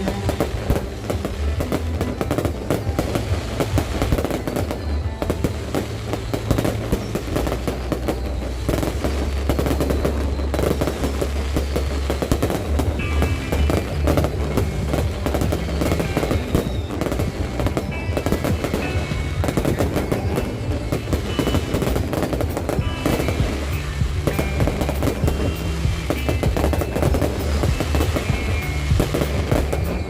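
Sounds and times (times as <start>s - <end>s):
fireworks booming: 0.0s - 30.0s
fireworks crackling: 0.0s - 30.0s.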